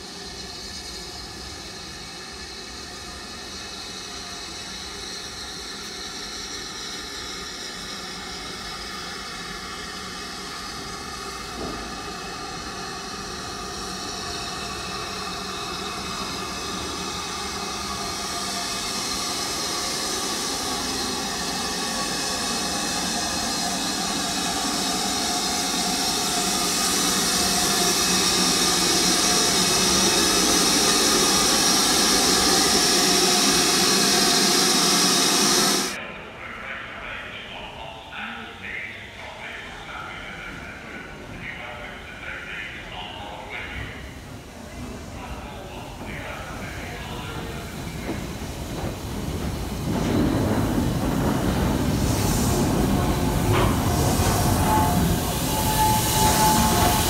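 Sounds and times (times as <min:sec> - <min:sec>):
steam locomotive hissing: 0:00.0 - 0:36.0, 0:37.0 - 0:57.0.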